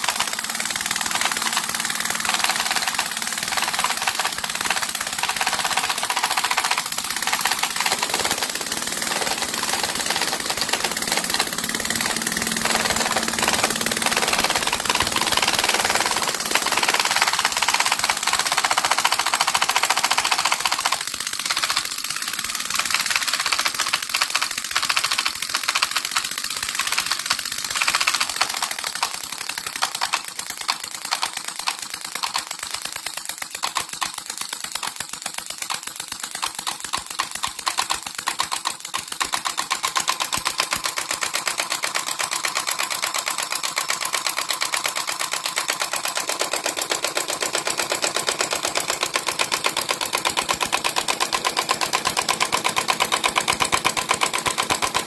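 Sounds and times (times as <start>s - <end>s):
model engine clattering: 0.0s - 55.0s.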